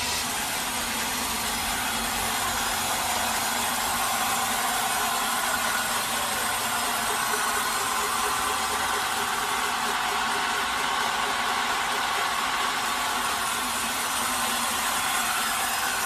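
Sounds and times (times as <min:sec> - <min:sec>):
bandsaw sawmill running: 0:00.0 - 0:16.0.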